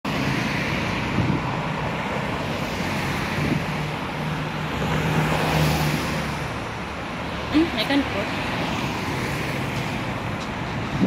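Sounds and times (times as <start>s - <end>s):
cars driving past: 0.1s - 11.0s.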